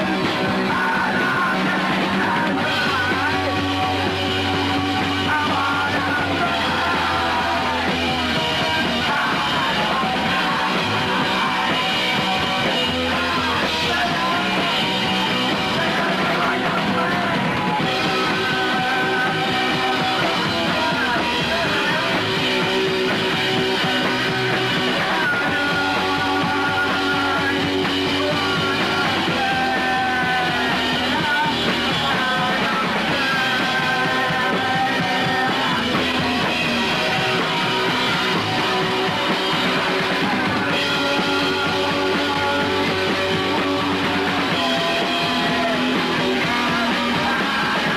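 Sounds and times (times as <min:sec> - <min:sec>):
half-shouted singing: 0:00.0 - 0:47.9
punk rock band: 0:00.0 - 0:47.9.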